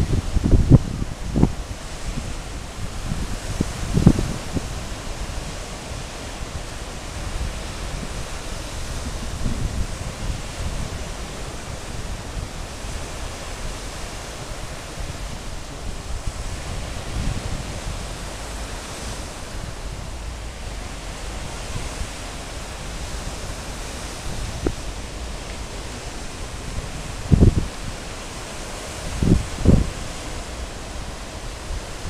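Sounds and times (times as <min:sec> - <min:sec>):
ocean waves breaking on beach: 0:00.0 - 0:32.0
wind buffeting microphone: 0:00.0 - 0:32.0.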